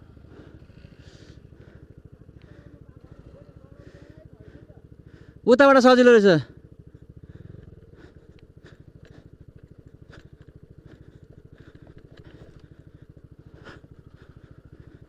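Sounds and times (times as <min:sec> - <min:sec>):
clicks and rattles on rough road: 0:00.0 - 0:05.5, 0:06.4 - 0:15.0
scooter engine running: 0:00.0 - 0:15.0.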